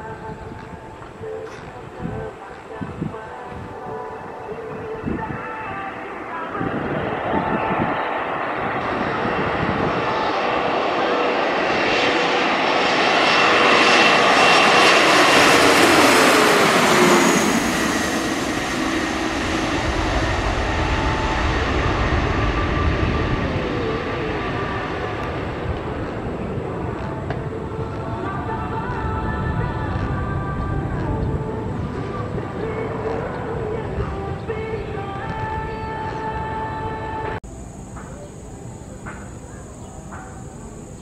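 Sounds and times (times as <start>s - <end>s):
deep rumble of plane landing: 0.0s - 41.0s
jet engines whining overhead: 0.0s - 41.0s.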